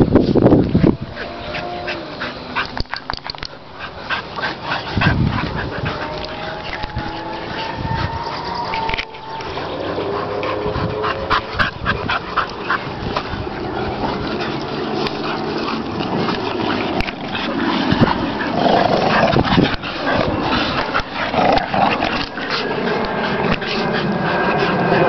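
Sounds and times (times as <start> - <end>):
dogs play-fighting: 0.0 - 25.0.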